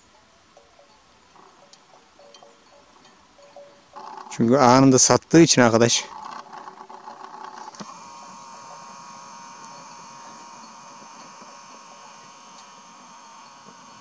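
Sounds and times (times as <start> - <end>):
high buzzing whine: 0.0 - 14.0.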